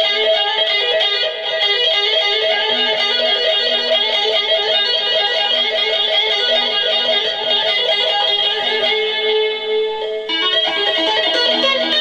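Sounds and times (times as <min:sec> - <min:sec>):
electric guitar tapped arpeggios: 0:00.0 - 0:12.0.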